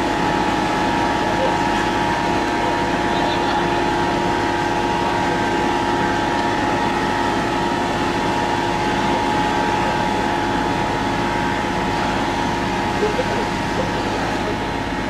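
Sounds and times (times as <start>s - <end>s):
pump mechanical drone: 0.0s - 15.0s.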